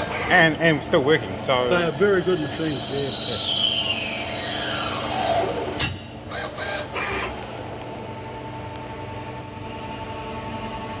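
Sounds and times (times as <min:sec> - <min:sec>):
machine hum with faint whine: 0:00.0 - 0:11.0.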